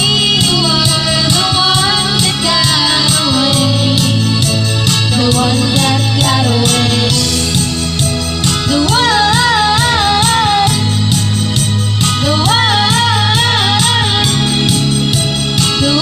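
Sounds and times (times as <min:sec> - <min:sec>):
song with beat and singing: 0:00.0 - 0:16.0.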